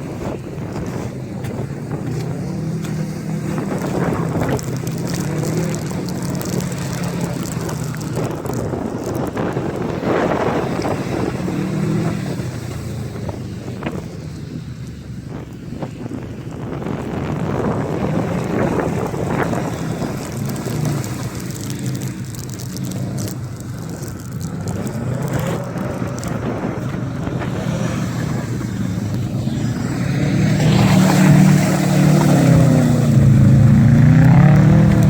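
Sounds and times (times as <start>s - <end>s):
car engine revving: 0.0s - 35.0s
wind on microphone: 0.0s - 35.0s.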